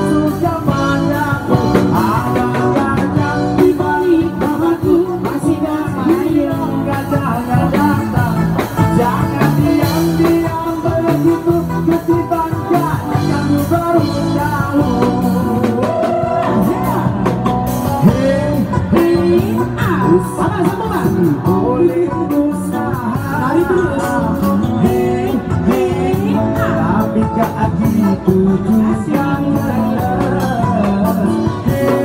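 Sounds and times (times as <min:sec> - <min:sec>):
drums: 0:00.0 - 0:32.0
electric bass: 0:00.0 - 0:32.0
man singing: 0:00.0 - 0:32.0.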